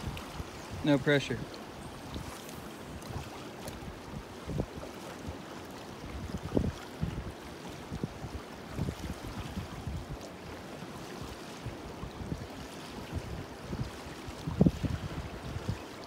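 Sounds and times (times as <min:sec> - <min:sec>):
river water rushing: 0:00.0 - 0:16.0
wind buffeting microphone: 0:00.0 - 0:16.0.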